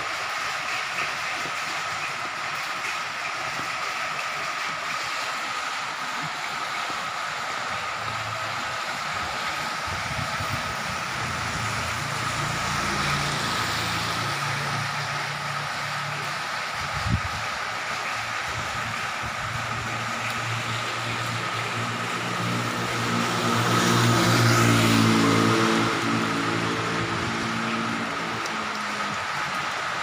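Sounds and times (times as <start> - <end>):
heavy rain on street and roof: 0.0 - 30.0
motor vehicle engine hum: 4.8 - 30.0.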